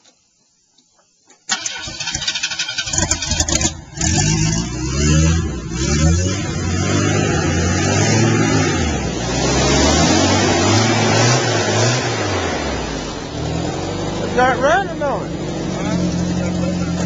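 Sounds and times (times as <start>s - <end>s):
car engine running: 2.8s - 17.0s.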